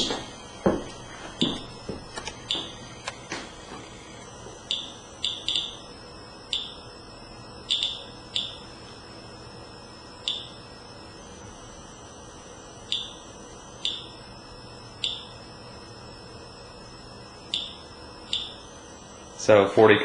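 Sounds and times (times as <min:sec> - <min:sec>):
geiger counter chirping: 0:01.4 - 0:03.2, 0:03.9 - 0:19.4.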